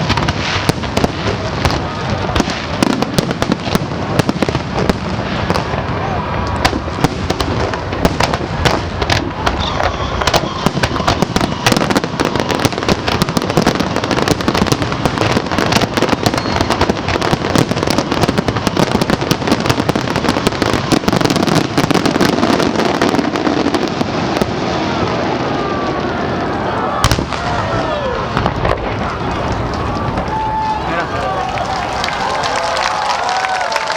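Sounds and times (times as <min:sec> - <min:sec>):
fireworks crackling bangs: 0:00.0 - 0:33.9.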